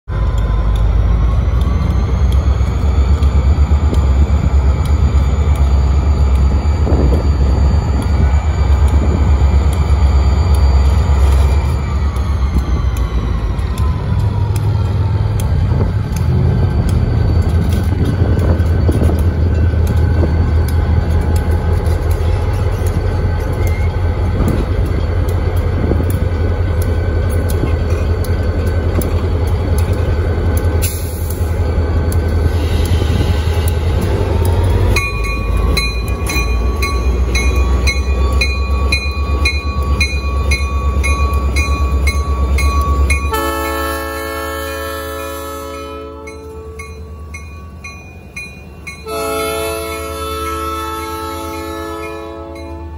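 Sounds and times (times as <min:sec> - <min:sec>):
locomotive deep rumble: 0:00.1 - 0:52.9.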